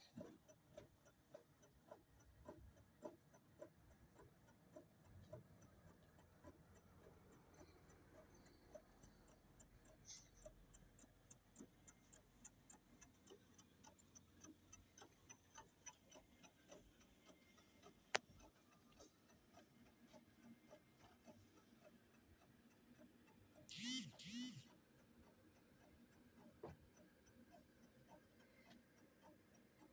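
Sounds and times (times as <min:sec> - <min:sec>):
mechanical ticking: 0:00.1 - 0:29.9.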